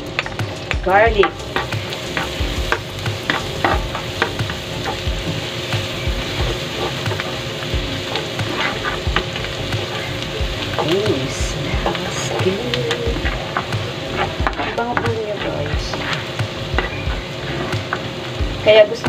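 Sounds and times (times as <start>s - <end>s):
garlic sizzling in frying pan: 0.0s - 19.0s
spatula scraping and tapping pan: 0.1s - 18.2s.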